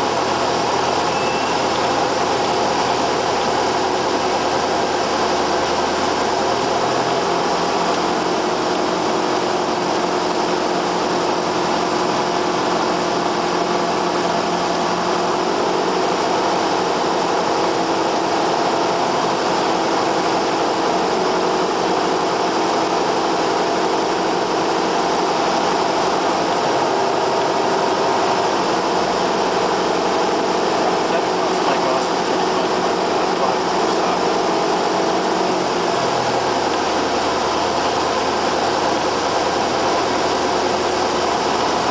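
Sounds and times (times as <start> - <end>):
aircraft engine and propeller: 0.0 - 41.9.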